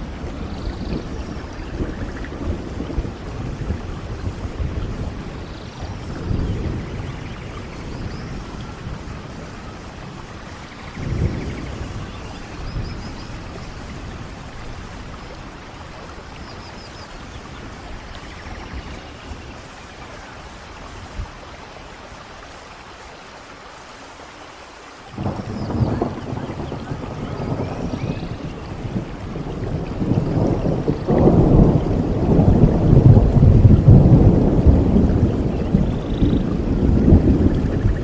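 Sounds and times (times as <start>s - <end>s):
low rolls of thunder: 0.0s - 22.6s, 25.1s - 38.0s
steady rain: 0.0s - 38.0s.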